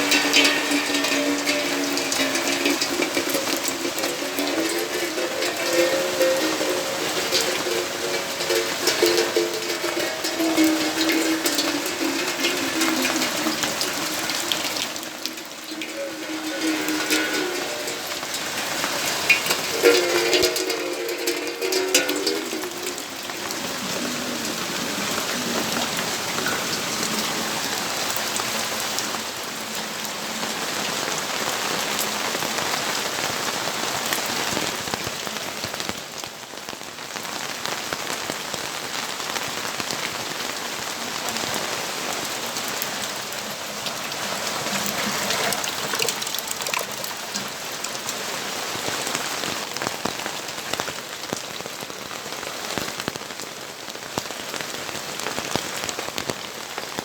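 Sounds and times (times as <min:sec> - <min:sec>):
raindrops ticking on surfaces: 0:00.0 - 0:57.0
steady rainfall: 0:00.0 - 0:57.0.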